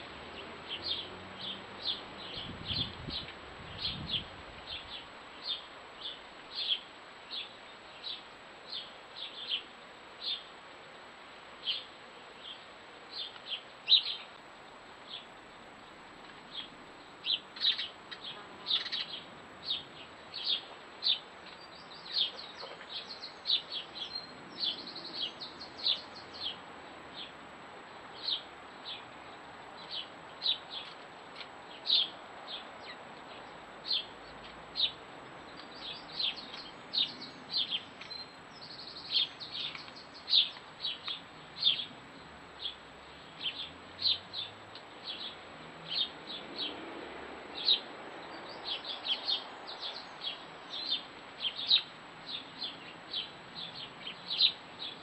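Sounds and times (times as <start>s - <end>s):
small birds chirping: 0.0s - 10.6s, 11.6s - 46.9s, 47.5s - 55.0s.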